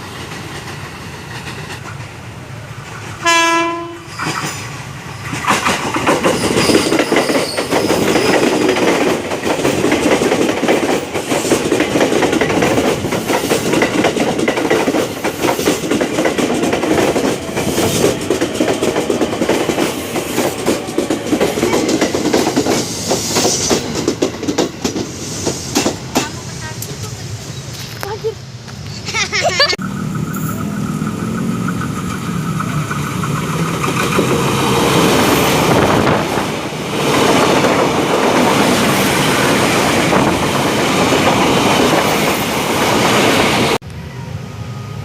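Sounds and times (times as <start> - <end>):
train wheels clattering over rail joints: 0.0 - 2.2, 4.1 - 27.0, 31.2 - 43.2.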